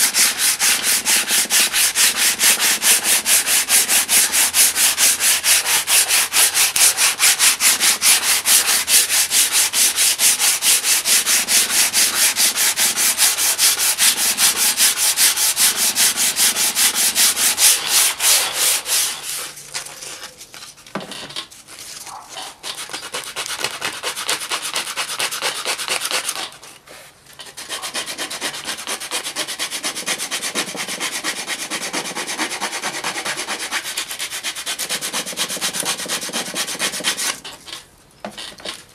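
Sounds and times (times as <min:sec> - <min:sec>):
wood rasp scraping cane: 0:00.0 - 0:20.5, 0:21.4 - 0:38.9.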